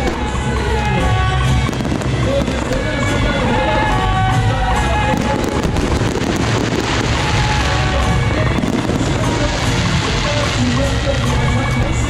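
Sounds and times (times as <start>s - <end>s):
fireworks crackling: 0.0s - 12.0s
music playing: 0.0s - 12.0s.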